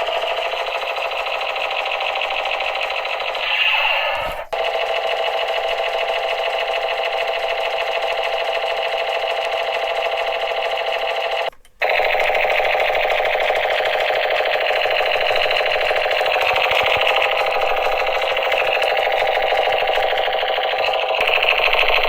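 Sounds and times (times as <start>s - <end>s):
toy machine gun rattling: 0.0s - 22.0s.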